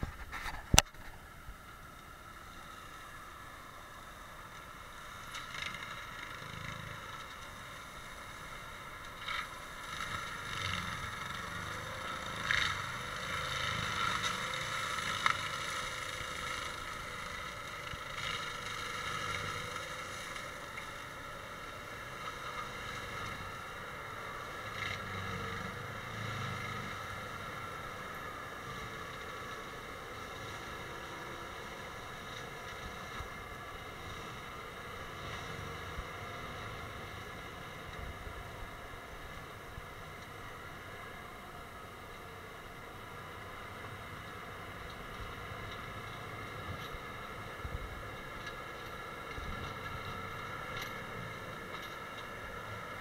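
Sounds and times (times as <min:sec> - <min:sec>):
tractor engine running: 0:00.0 - 0:53.0
mulcher rotor whining: 0:04.4 - 0:53.0.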